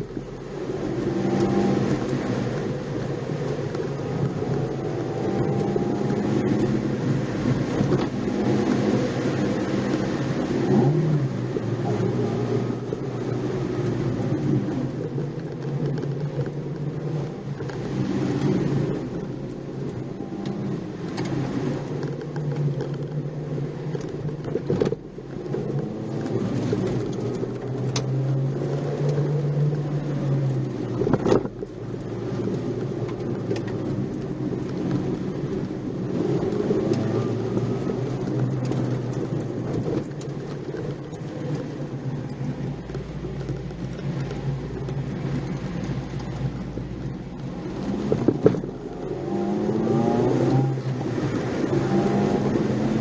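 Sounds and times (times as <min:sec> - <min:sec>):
car engine revving: 0:00.0 - 0:53.0
road and tyre noise: 0:00.0 - 0:53.0.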